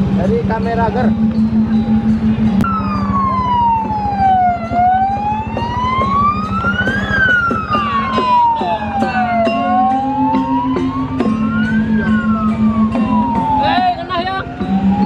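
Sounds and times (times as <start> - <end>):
vehicle engines rumbling: 0.0 - 15.0
siren wailing: 0.8 - 15.0.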